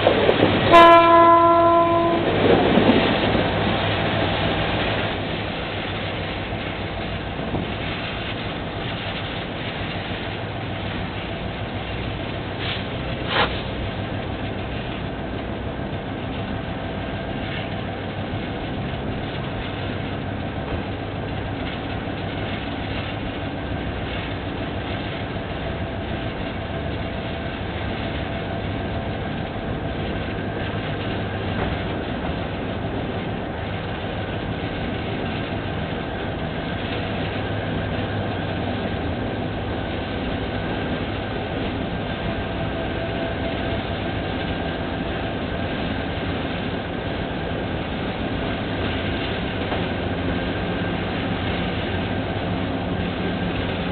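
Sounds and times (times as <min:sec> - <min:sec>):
carriages running on rails: 0:00.0 - 0:53.9.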